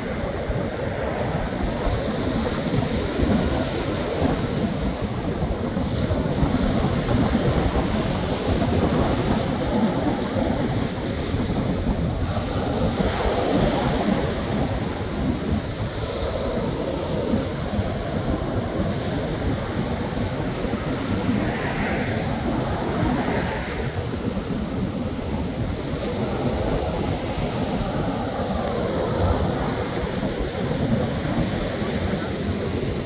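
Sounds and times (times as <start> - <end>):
ocean surf washing ashore: 0.0 - 33.0
wind buffeting microphone: 0.0 - 33.0.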